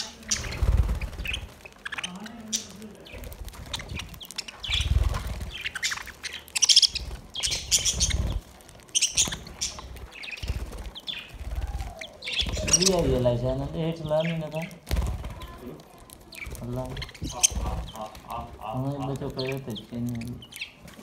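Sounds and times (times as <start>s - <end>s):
budgerigars chirping: 0.0s - 15.7s, 16.3s - 21.0s
wing flutters: 0.0s - 21.0s.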